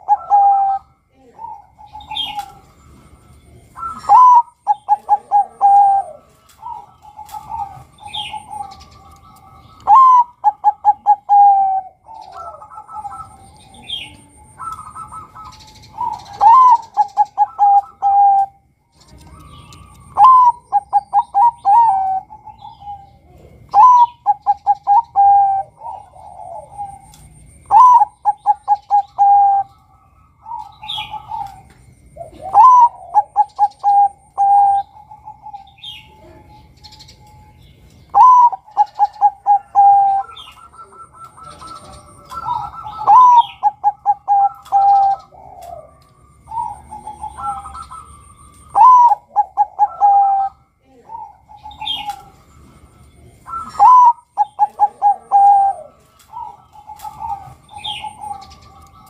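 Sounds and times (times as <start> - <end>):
dove cooing: 0.0 - 59.0
faint high chirps: 0.0 - 59.0.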